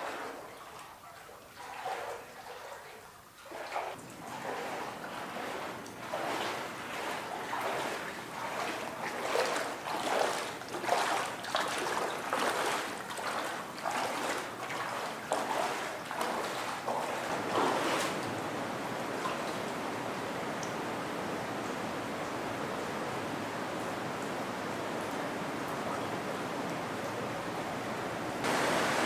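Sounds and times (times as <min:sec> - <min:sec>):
water rushing and splashing: 0:00.0 - 0:29.0.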